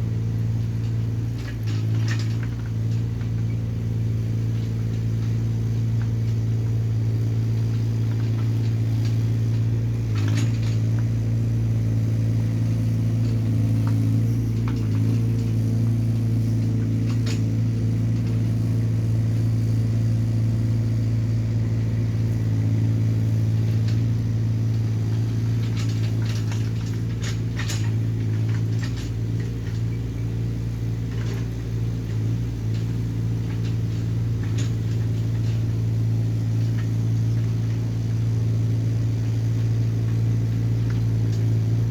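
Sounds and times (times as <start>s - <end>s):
excavator diesel engine humming: 0.0s - 41.9s.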